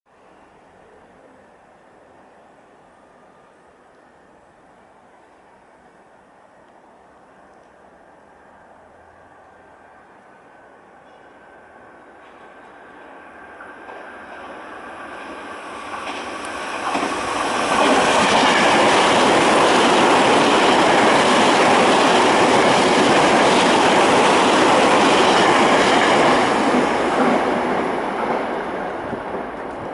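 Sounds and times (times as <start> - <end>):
electric train running past: 0.2 - 29.9.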